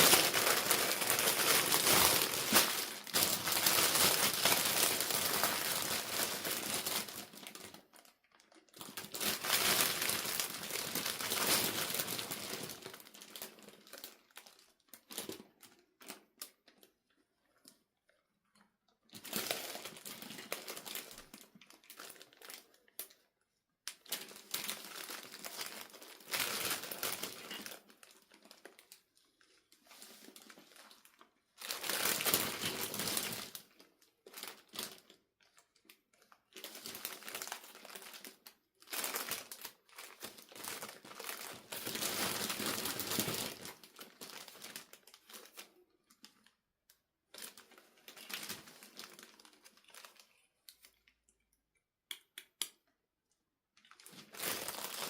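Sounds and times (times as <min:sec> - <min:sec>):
plastic packaging crinkling: 0:00.0 - 0:17.8, 0:19.1 - 0:23.3, 0:23.9 - 0:46.5, 0:47.3 - 0:51.3, 0:53.8 - 0:55.0.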